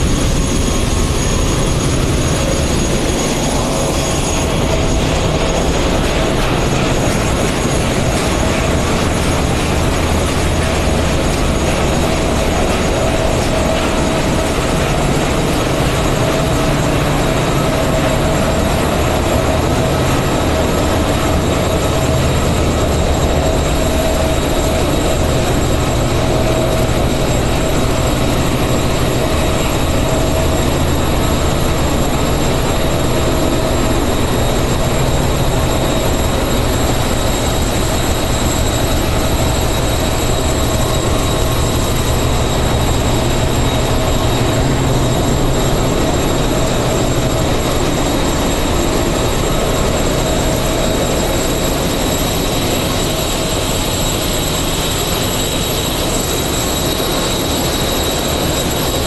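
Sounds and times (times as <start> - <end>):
engine-room machinery roar: 0.0 - 59.0
high steady machine whines: 0.0 - 59.0.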